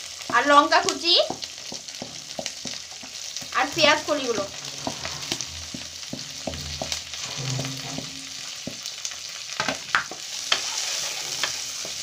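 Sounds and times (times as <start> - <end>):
vegetables sizzling in oil: 0.0 - 12.0
spatula scraping a pan: 1.3 - 12.0.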